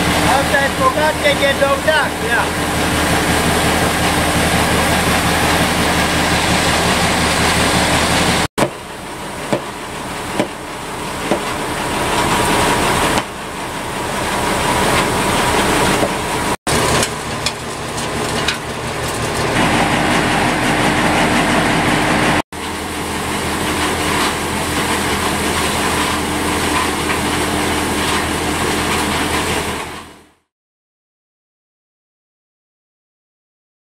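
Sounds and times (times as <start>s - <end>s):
grain mill rumbling and clattering: 0.0s - 30.3s.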